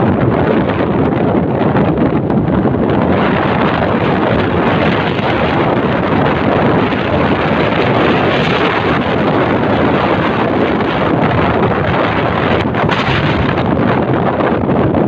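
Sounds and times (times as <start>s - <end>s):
motorcycle engine: 0.0s - 14.8s
road noise: 0.0s - 15.0s
wind noise on microphone: 0.0s - 15.0s.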